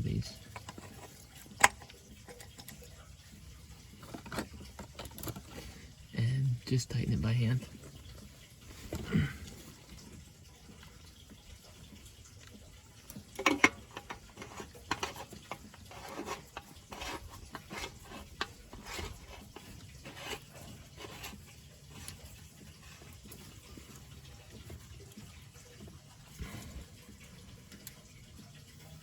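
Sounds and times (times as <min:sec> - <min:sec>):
small clicks and scrapes: 0:00.4 - 0:06.0, 0:07.7 - 0:29.0.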